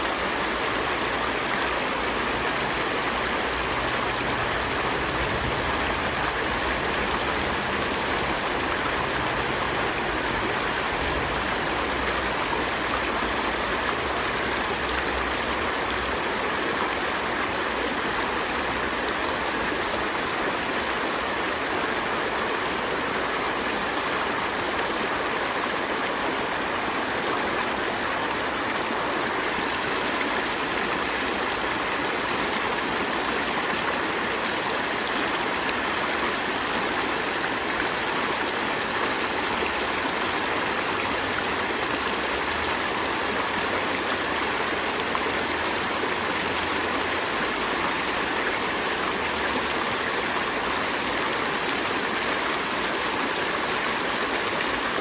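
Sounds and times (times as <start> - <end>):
river stream flowing: 0.0 - 55.0.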